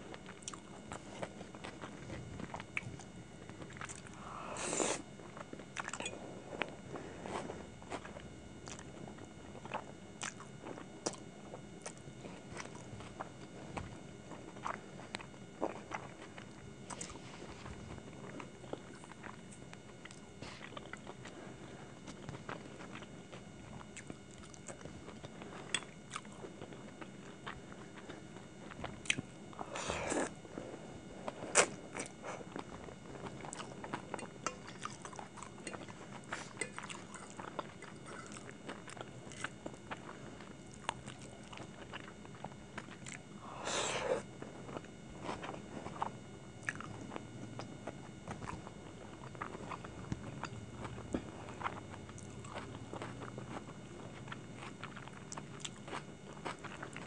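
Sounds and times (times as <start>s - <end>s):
chewing and slurping noodles: 0.1s - 57.0s.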